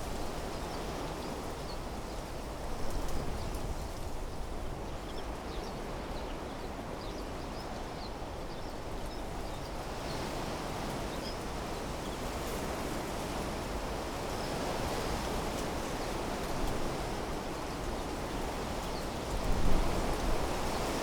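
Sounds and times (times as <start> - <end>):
wind blowing through trees: 0.0 - 21.0.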